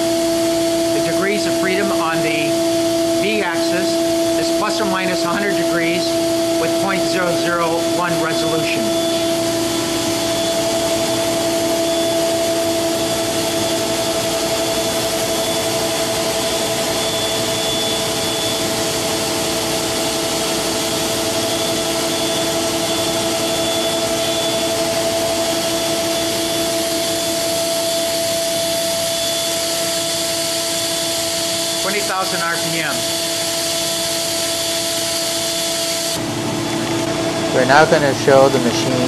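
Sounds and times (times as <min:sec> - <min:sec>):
milling spindle whining: 0:00.0 - 0:39.0.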